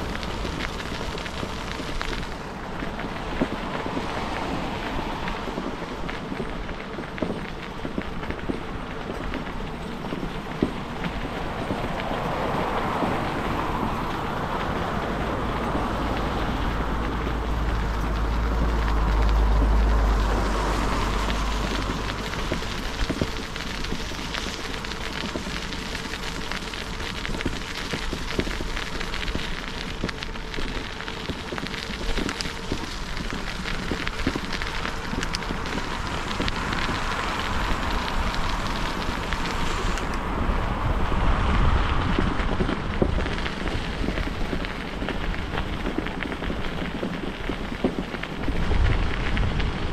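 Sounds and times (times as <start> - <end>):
bicycle tyres crackling on grit: 0.0 - 49.9
wind on microphone: 0.0 - 49.9.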